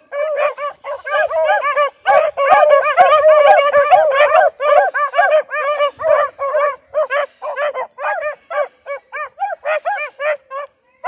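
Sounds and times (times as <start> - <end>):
dogs yelping barks: 0.0 - 11.0.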